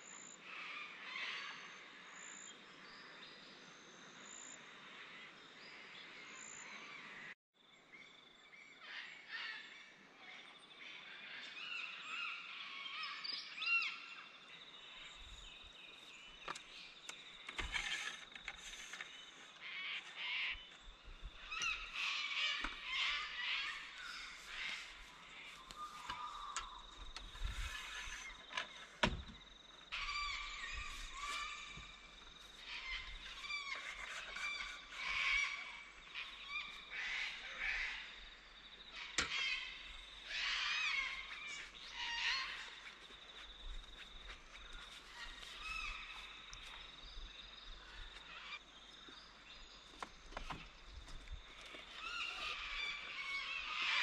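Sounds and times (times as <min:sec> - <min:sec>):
birds chirping and calling: 0:08.8 - 0:54.0.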